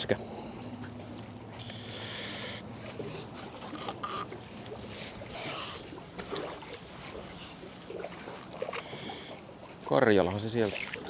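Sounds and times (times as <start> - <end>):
motorboat engine hum: 0.0 - 11.0
water sloshing: 0.0 - 11.0.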